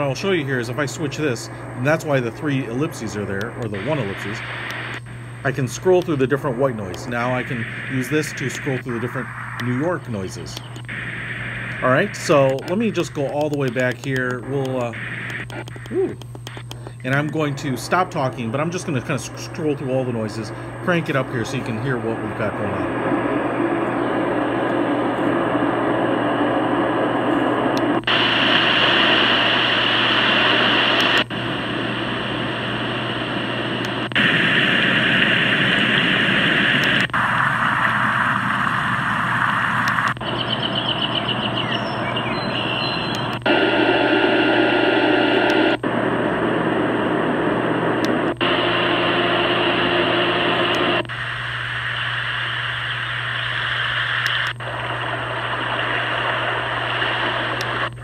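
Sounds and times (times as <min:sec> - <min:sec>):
white noise machine sounds: 0:00.0 - 0:58.0.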